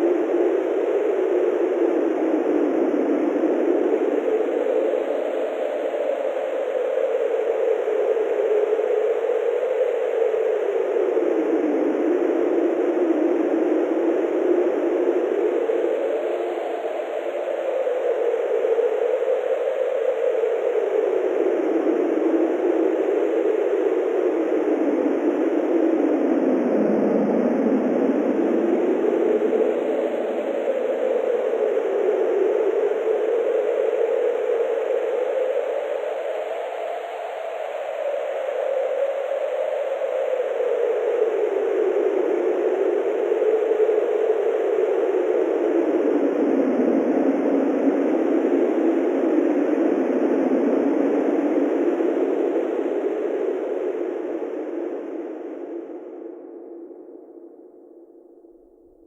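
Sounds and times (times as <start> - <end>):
synthesized wind gusts: 0.0 - 59.0.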